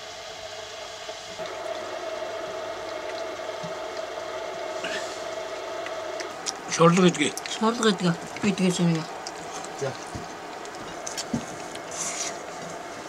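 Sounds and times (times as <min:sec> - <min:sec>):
background hum and hiss: 0:00.0 - 0:13.0
constant mid-pitched tone: 0:00.0 - 0:13.0.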